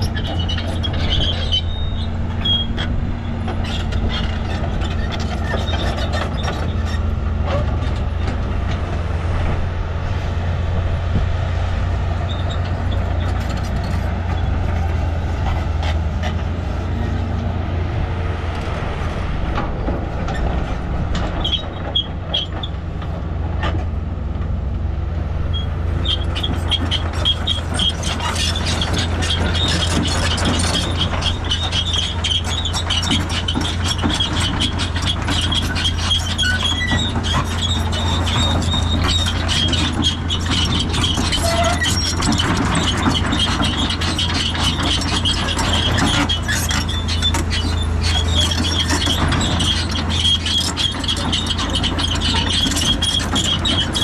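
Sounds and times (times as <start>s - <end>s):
high squeaks: 0.0s - 8.4s, 12.2s - 17.3s, 21.3s - 22.8s, 25.5s - 54.0s
excavator diesel engine running: 0.0s - 54.0s.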